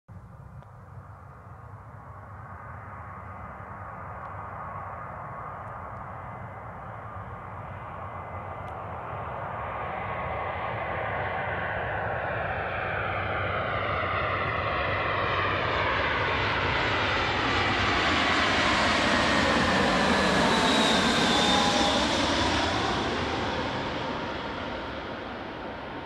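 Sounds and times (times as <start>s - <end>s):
jet aircraft passing with whine: 0.1s - 26.0s.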